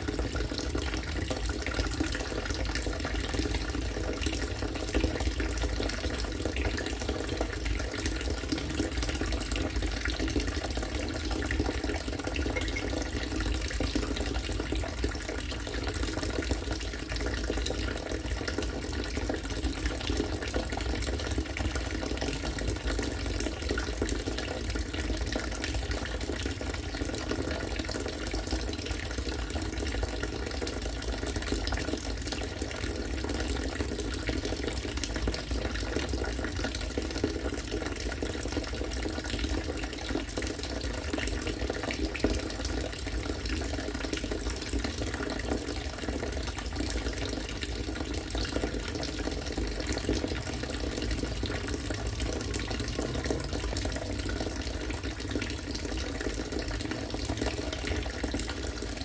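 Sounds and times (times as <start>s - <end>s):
water pouring into water: 0.0s - 59.0s.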